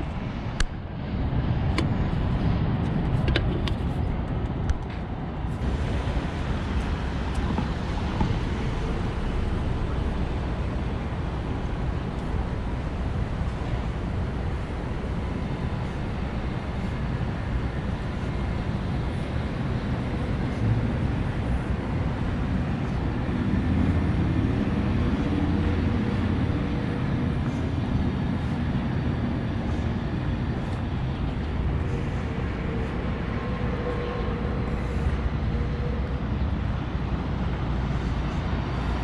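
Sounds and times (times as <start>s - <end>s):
city street rumble: 0.0s - 39.0s
distant traffic: 0.0s - 39.0s.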